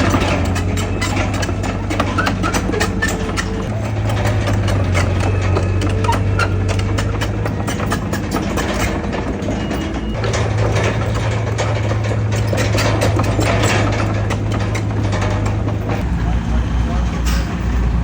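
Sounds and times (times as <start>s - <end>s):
diesel engine drone: 0.0s - 18.0s
machine clanks and clicks: 0.0s - 18.0s.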